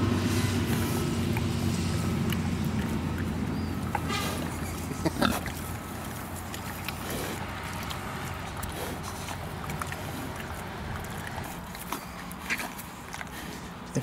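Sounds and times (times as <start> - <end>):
low hum: 0.0 - 12.4
pigs chewing and smacking: 0.0 - 14.0
pig grunts: 0.3 - 14.0.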